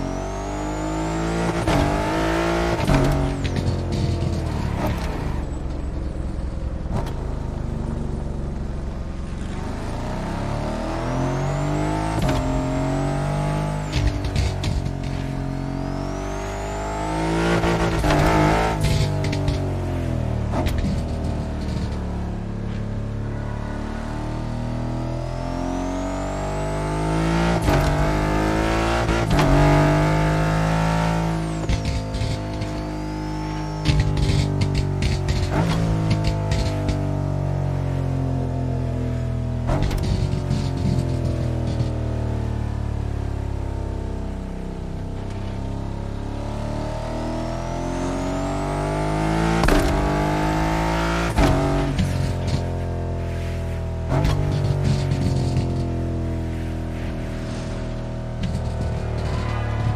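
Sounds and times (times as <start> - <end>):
car engine revving: 0.0 - 5.5, 6.9 - 59.9.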